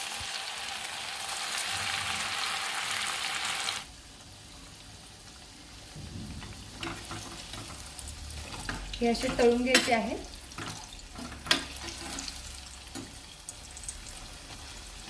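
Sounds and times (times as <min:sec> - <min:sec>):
fritters sizzling in hot oil: 0:00.0 - 0:15.0.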